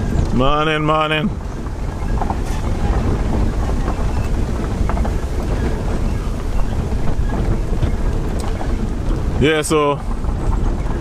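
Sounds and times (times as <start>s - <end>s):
engine and tyre rumble: 0.0s - 11.0s
wind buffeting microphone: 0.0s - 11.0s.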